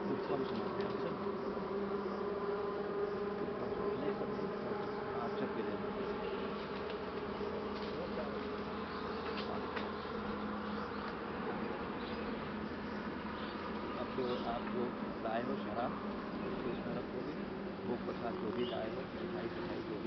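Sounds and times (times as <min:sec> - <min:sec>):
insects buzzing drone: 0:00.0 - 0:20.0.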